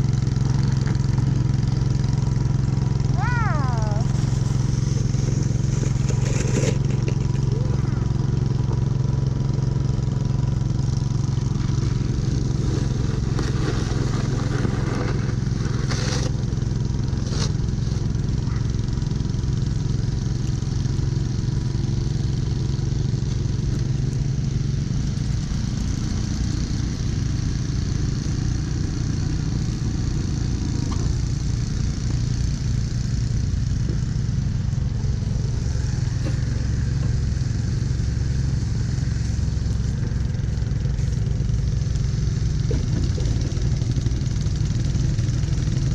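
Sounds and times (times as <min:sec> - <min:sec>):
snowblower engine running: 0:00.0 - 0:45.9.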